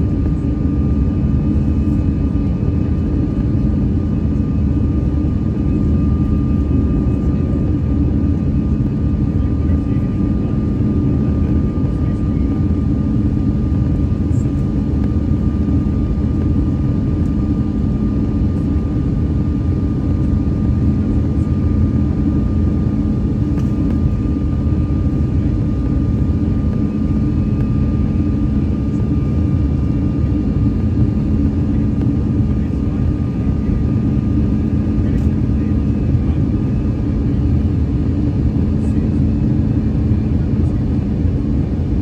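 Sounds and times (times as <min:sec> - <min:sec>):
engine and airflow rumble: 0:00.0 - 0:42.0.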